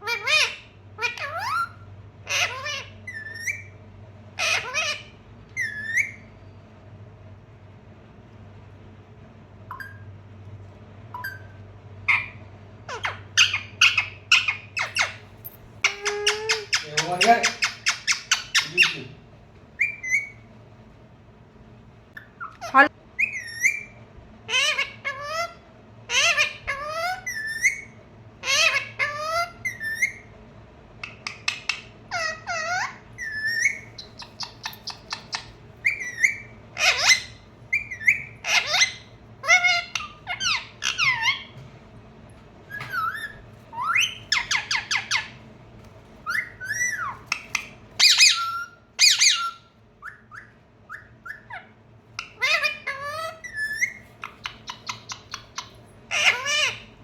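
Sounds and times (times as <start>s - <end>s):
parrot calling and whistling: 0.0s - 3.8s, 4.4s - 6.4s, 9.7s - 10.1s, 11.1s - 19.1s, 19.8s - 20.5s, 22.1s - 30.3s, 31.0s - 41.6s, 42.6s - 45.5s, 46.2s - 57.0s.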